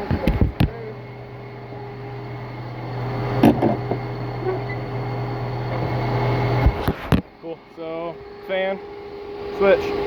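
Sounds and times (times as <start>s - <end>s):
radiator cooling fan humming: 0.0s - 10.0s.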